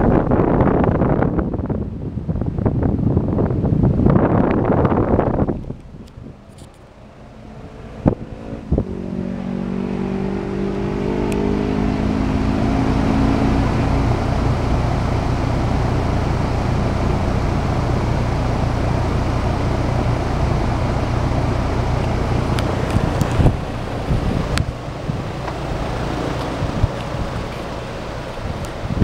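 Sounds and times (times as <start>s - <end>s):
fan whirring: 0.0s - 29.0s
low compressor hum: 0.0s - 29.0s.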